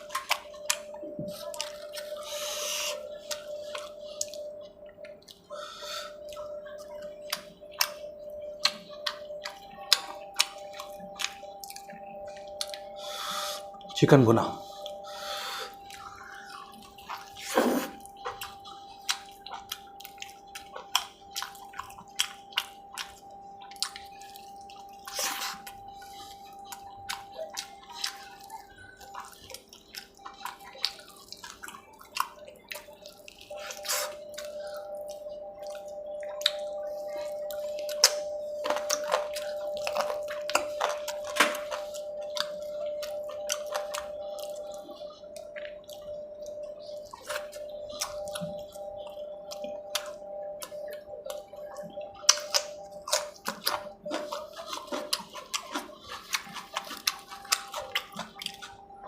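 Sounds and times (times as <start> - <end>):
wet chewing and lip smacks: 0.0 - 59.0.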